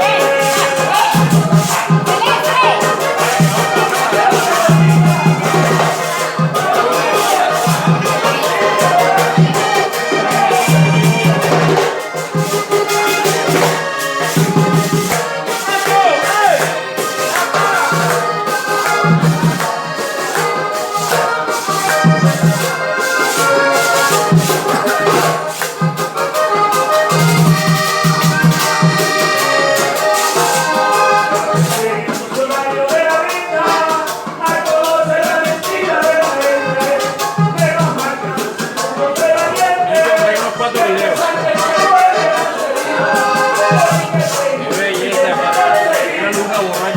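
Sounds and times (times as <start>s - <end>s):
rattling shaker percussion: 0.0s - 46.9s
upbeat latin music: 0.0s - 46.9s.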